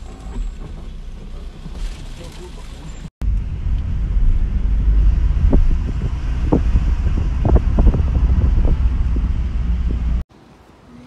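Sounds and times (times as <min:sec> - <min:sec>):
car rumble inside cabin: 0:00.0 - 0:10.3.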